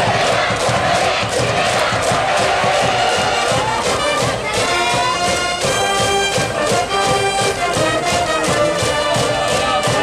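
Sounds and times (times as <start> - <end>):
brass band playing: 0.0 - 10.0
steady drumbeat: 0.0 - 10.0.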